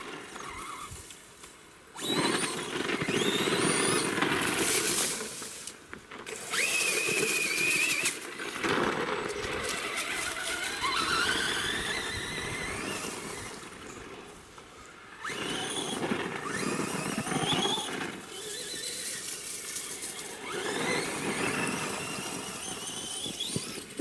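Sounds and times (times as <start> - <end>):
rc truck electric motor whining: 0.0 - 1.3, 1.9 - 24.0.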